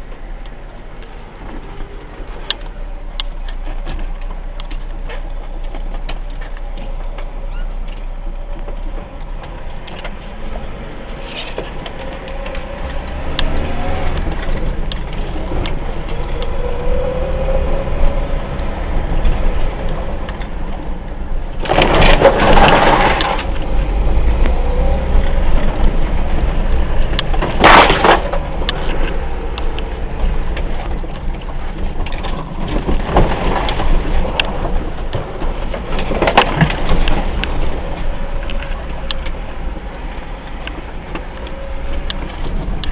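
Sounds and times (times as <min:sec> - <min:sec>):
vehicle engine and road rumble: 0:00.0 - 0:42.9.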